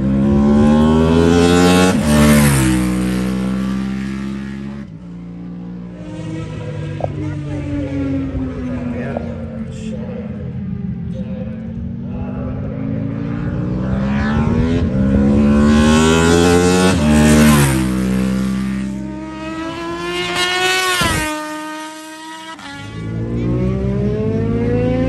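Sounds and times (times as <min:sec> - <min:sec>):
racing motorcycles passing: 0:00.0 - 0:25.0.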